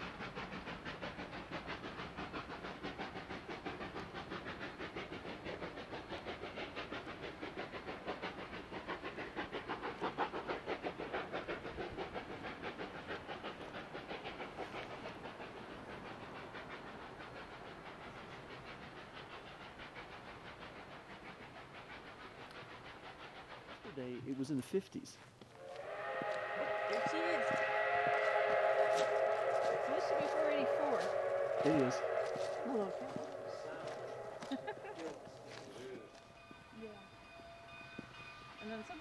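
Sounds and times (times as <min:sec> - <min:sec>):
steam locomotive exhaust chuffing: 0:00.0 - 0:39.0.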